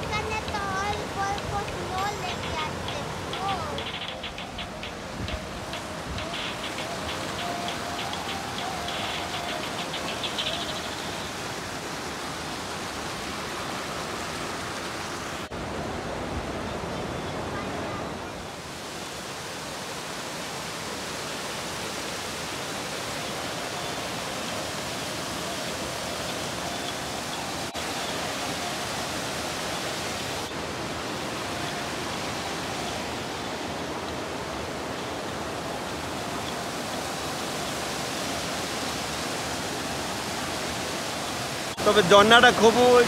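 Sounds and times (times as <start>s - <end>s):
waterfall rushing over rocks: 0.0s - 43.0s.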